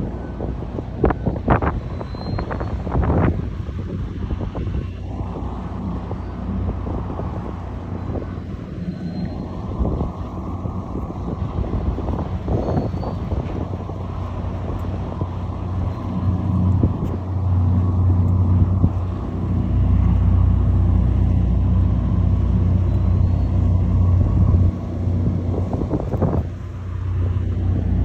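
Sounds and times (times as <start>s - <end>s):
ferry engines humming: 0.0s - 28.0s.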